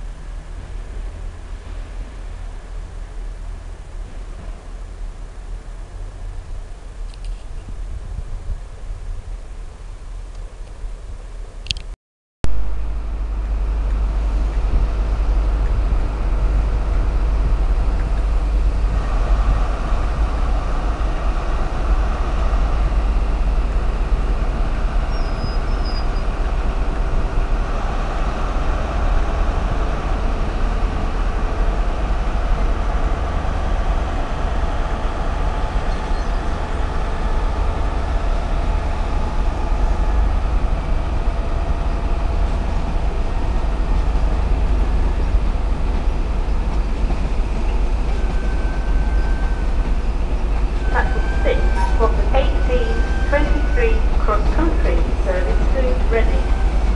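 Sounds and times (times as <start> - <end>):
passenger train rumbling: 0.0 - 11.9, 12.5 - 56.9.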